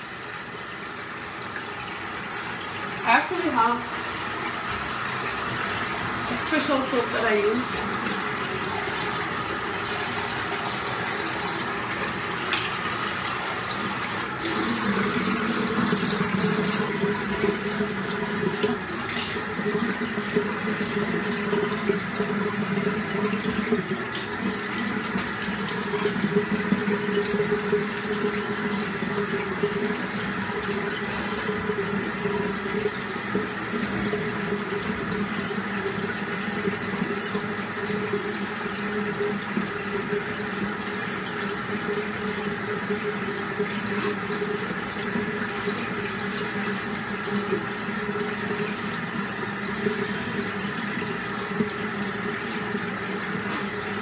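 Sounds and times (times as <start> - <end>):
tap water running into sink: 0.0 - 54.0.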